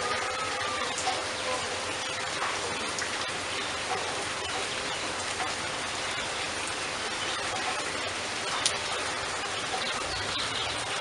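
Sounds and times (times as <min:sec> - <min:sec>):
raindrops ticking: 0:00.0 - 0:11.0
steady rain hiss: 0:00.0 - 0:11.0.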